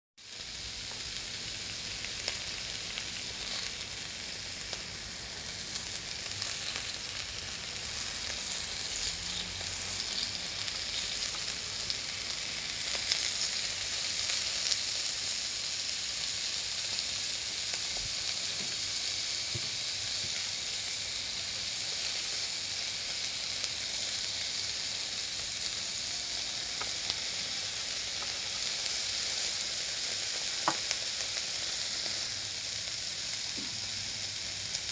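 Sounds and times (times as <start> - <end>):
meat sizzling on a grill: 0.2 - 34.9.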